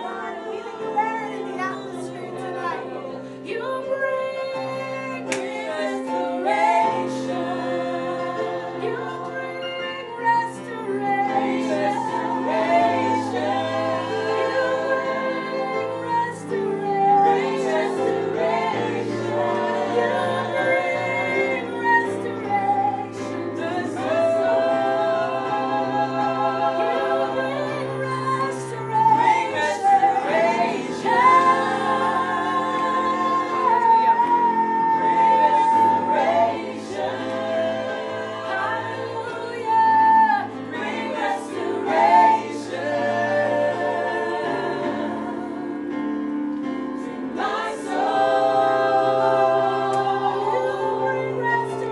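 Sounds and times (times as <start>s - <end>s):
women singing gospel song: 0.0s - 51.9s.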